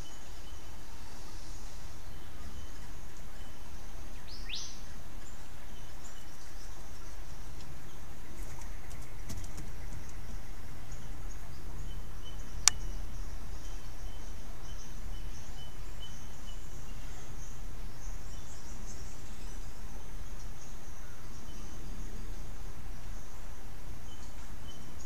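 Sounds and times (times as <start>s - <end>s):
insects chirring: 0.0s - 25.0s
low hum and hiss: 0.0s - 25.0s.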